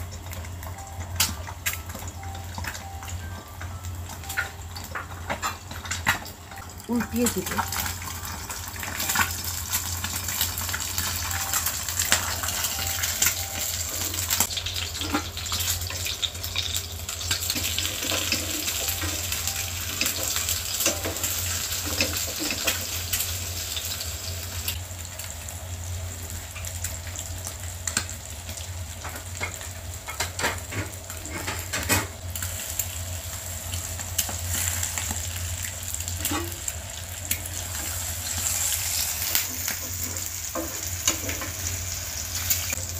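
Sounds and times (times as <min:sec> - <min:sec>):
eggs sizzling in oil: 0:00.0 - 0:42.9.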